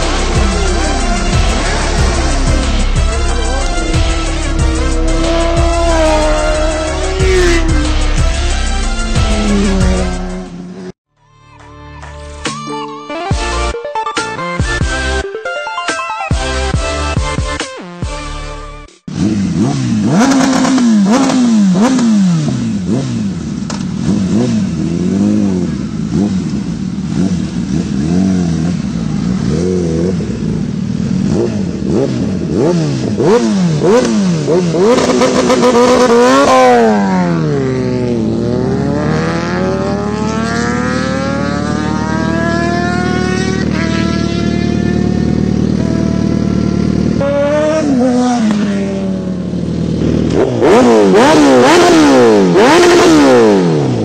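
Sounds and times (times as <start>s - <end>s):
motorcycle accelerating: 0.0s - 11.0s, 19.1s - 54.0s
motorcycle engine revving: 0.0s - 11.0s, 19.1s - 54.0s.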